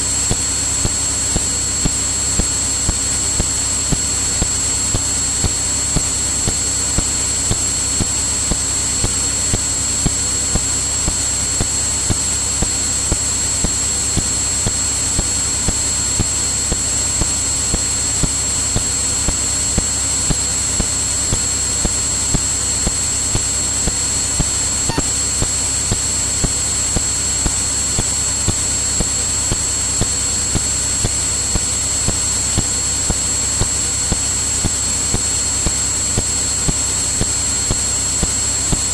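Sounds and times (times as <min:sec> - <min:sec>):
high-pitched whine: 0:00.0 - 0:38.9.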